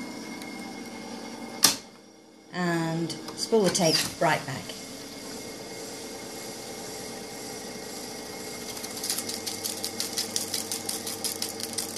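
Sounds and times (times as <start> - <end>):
tape recorder motor whine: 0.0 - 11.9.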